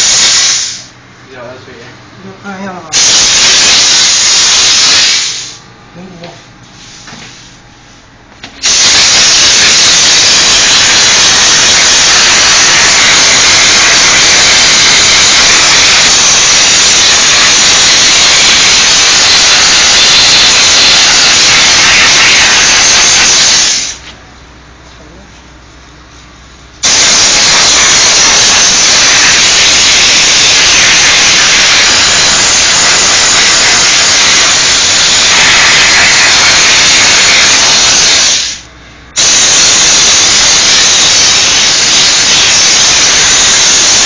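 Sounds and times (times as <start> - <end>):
steam cleaner hissing: 0.0 - 0.9, 2.9 - 5.6, 8.6 - 24.1, 26.8 - 44.0.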